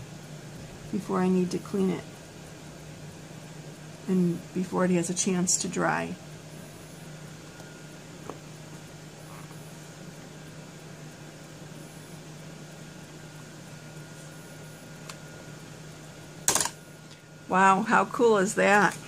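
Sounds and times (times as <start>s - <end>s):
room noise hum and hiss: 0.0s - 19.0s.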